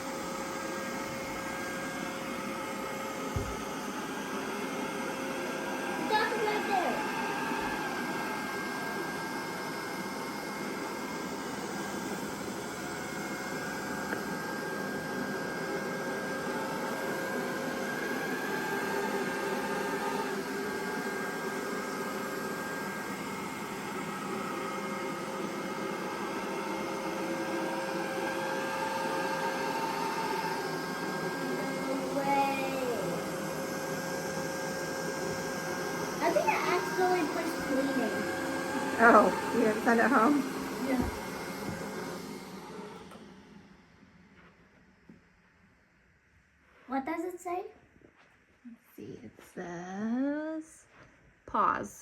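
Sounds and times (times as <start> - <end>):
robot vacuum whirring: 0.1 - 43.8.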